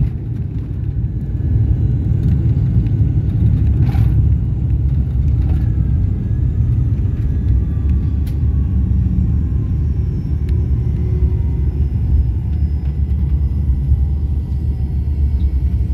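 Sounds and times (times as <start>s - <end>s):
engine whine dropping in pitch: 0.0s - 15.9s
jet cabin rumble: 0.0s - 15.9s.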